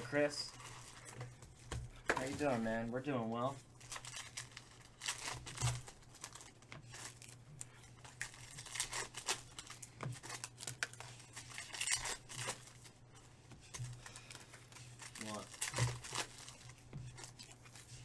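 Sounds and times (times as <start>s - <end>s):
foil wrappers tearing and crinkling: 0.1s - 1.3s, 3.4s - 13.0s, 13.7s - 18.0s.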